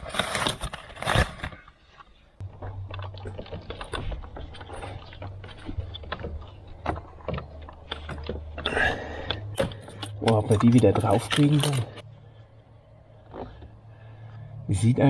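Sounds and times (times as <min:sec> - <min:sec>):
rustling and scraping: 0:00.0 - 0:12.1, 0:13.1 - 0:14.5.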